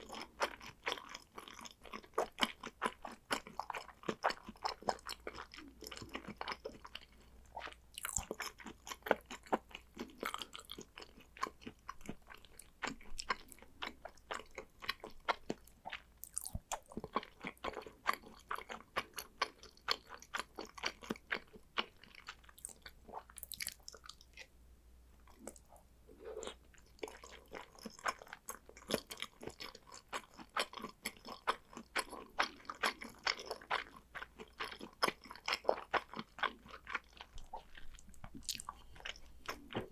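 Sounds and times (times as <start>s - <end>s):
wet chewing clicks and smacks: 0.0s - 24.5s, 26.5s - 39.9s.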